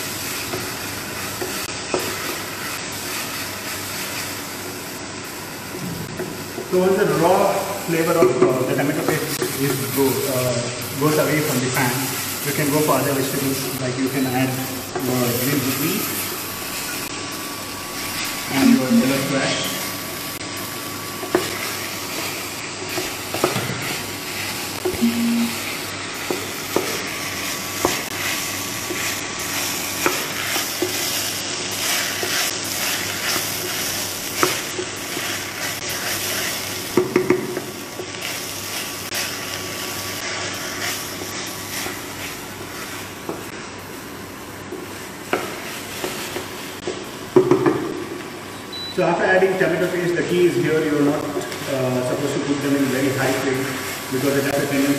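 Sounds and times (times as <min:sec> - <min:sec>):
vegetables sizzling in a hot pan: 0:00.0 - 0:54.9.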